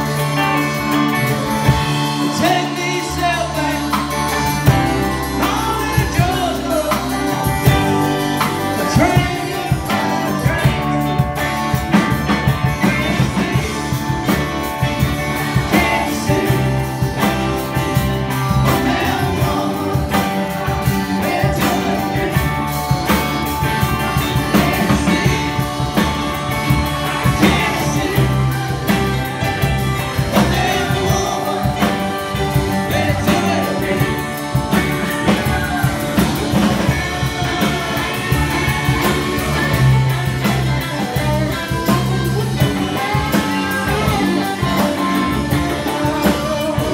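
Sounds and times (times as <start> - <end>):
live rock band playing: 0.0 - 46.9
woman singing lead: 0.1 - 46.9.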